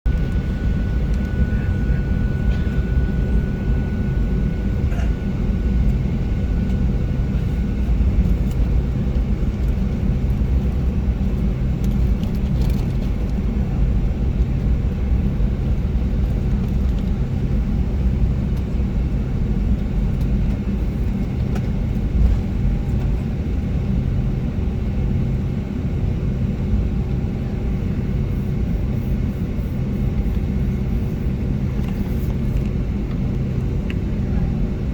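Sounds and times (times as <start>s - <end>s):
engine and airflow rumble: 0.0s - 34.9s
thin steady whine: 0.1s - 34.9s.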